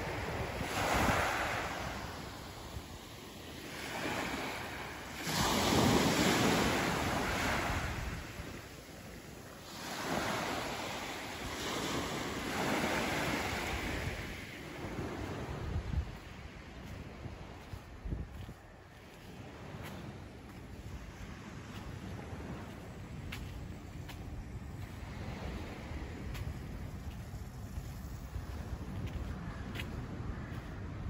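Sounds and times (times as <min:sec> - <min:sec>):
small waves breaking on beach: 0:00.0 - 0:31.0
wind buffeting microphone: 0:00.0 - 0:31.0.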